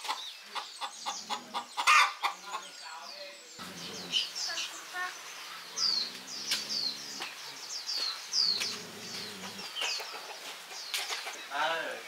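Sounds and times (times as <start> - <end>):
chickens clucking: 0.0 - 3.0, 3.6 - 11.9
small bird chirping: 0.0 - 11.6.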